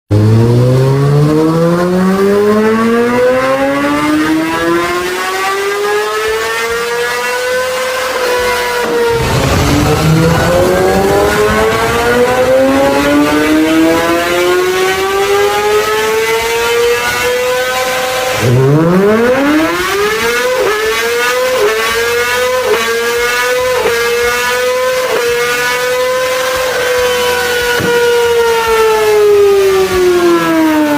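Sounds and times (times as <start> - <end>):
motorcycle engine full throttle: 0.1 - 30.9.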